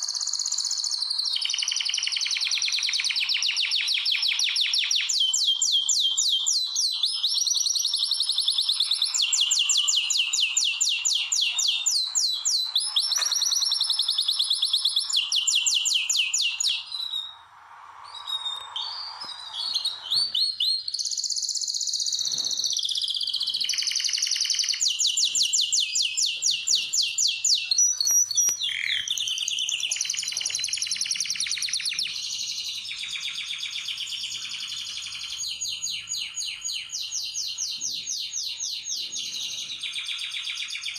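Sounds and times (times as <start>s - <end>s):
canary singing trills: 0.0s - 17.5s, 18.1s - 40.9s.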